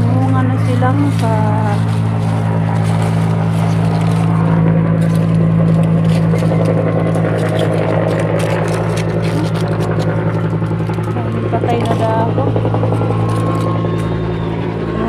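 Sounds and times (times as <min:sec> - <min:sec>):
leaves rustling and crackling: 0:00.0 - 0:14.5
low mechanical hum: 0:00.0 - 0:15.0.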